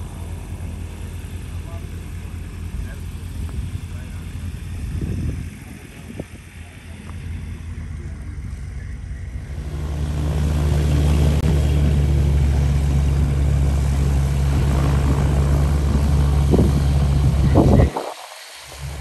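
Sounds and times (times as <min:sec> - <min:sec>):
aircraft engine droning: 0:00.0 - 0:19.0.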